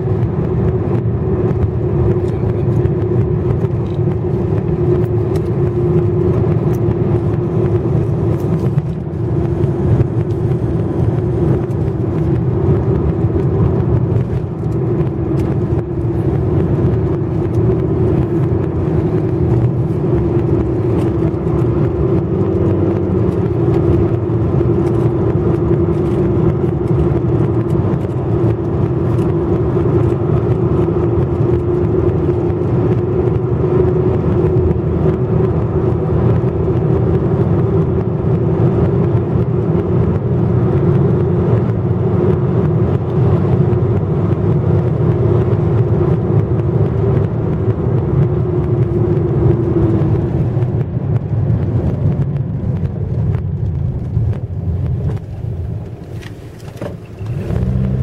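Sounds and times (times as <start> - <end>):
low road rumble: 0.0 - 58.0
vehicle hum: 0.0 - 58.0.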